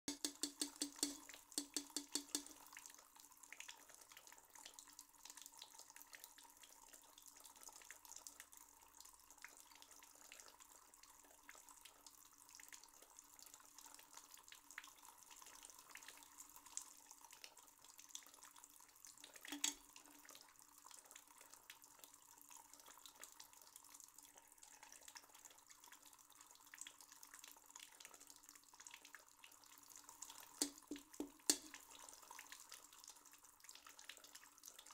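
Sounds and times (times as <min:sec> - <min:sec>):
water dripping: 0:00.1 - 0:34.9.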